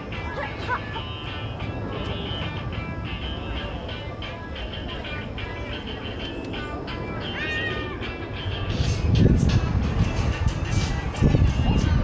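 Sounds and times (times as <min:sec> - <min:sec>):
music playing: 0:00.0 - 0:12.0.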